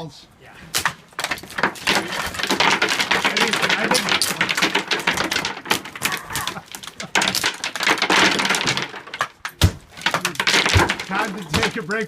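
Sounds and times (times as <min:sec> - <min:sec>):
plaster and lath cracking: 0:00.7 - 0:12.0.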